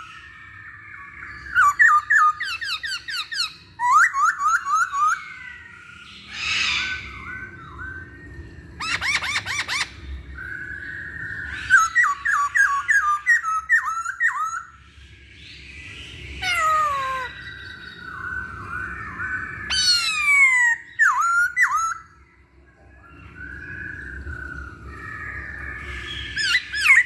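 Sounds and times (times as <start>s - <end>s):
bird singing whistled notes: 0.0s - 27.0s.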